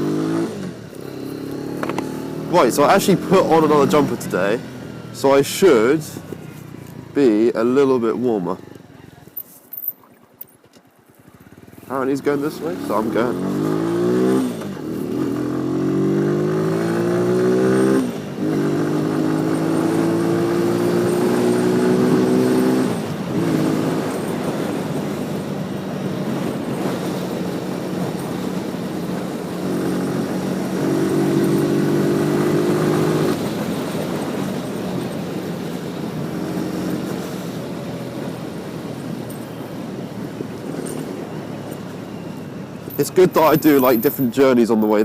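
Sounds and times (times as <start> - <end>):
motorcycle engine accelerating: 0.0 - 9.1, 10.4 - 44.0.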